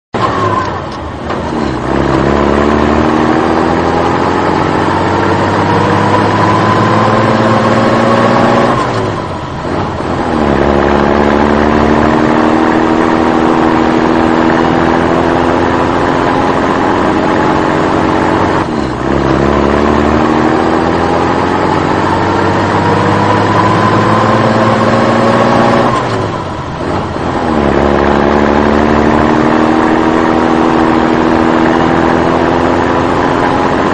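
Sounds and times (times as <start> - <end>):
truck engine revving: 0.2 - 33.9.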